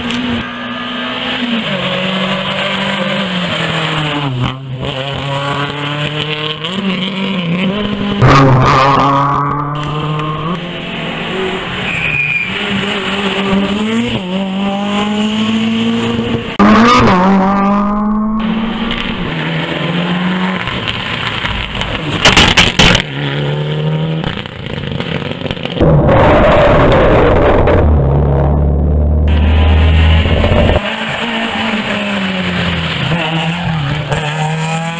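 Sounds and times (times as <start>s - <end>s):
rally car engine accelerating: 0.0s - 34.9s.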